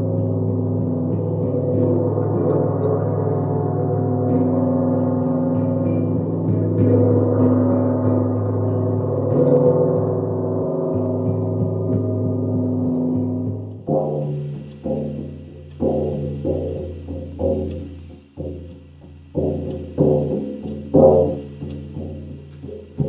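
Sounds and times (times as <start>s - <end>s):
deep struck gong notes: 0.0s - 23.0s
gong wash: 0.0s - 23.0s.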